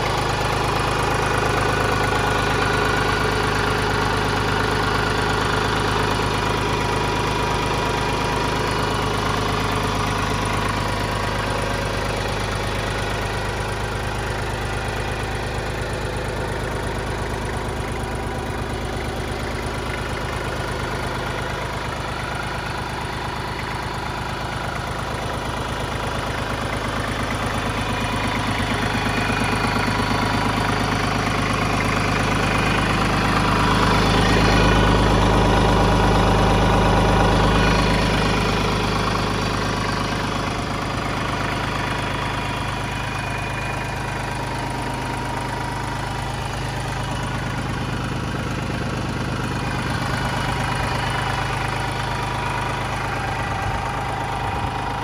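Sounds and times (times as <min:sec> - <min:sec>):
small diesel engine idling: 0:00.0 - 0:55.0.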